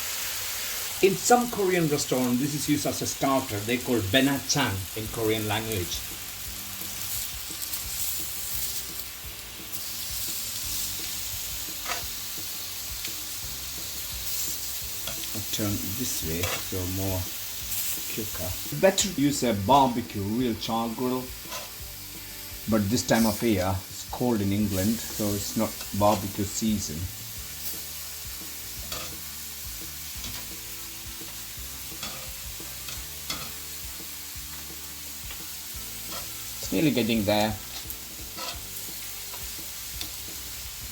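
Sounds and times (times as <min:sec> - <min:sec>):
meat sizzling on a skillet: 0:00.0 - 0:40.9.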